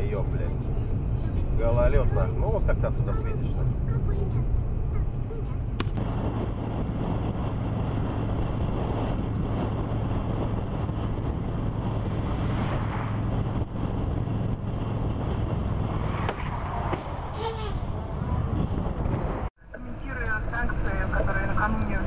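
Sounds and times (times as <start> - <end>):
wind buffeting microphone: 0.0 - 19.5.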